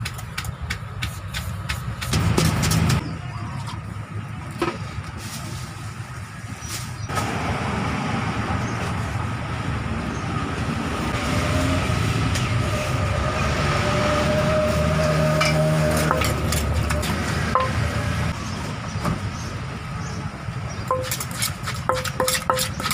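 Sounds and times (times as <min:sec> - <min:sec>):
engine rumble with whine: 0:01.8 - 0:21.1.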